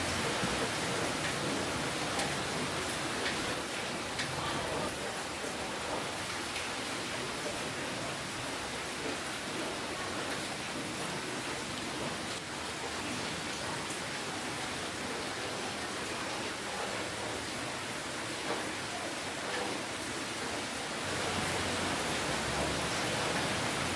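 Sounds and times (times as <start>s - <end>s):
rain hissing: 0.0s - 23.9s.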